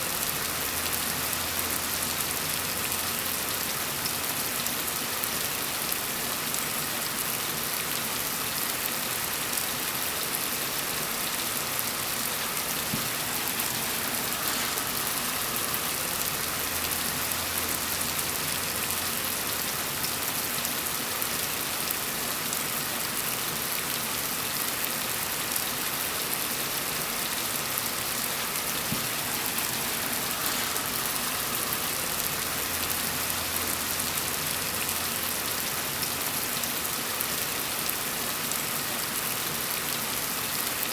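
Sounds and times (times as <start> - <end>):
gentle rain falling: 0.0 - 40.9.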